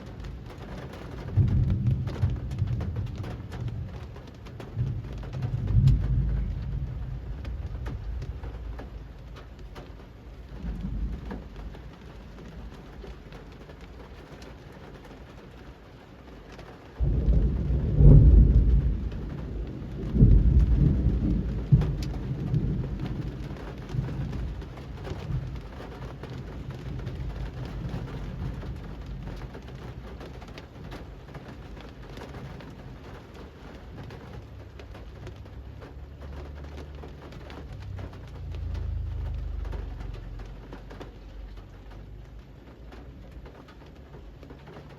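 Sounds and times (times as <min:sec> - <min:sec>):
thunder rumbling: 0:00.0 - 0:14.1, 0:17.0 - 0:44.9
rain falling on street: 0:00.0 - 0:44.9.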